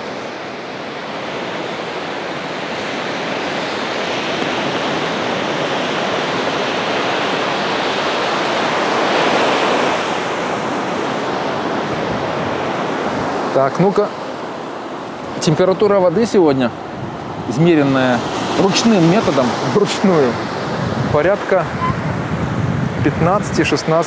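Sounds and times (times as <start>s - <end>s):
surf breaking on sandy beach: 0.0s - 24.0s.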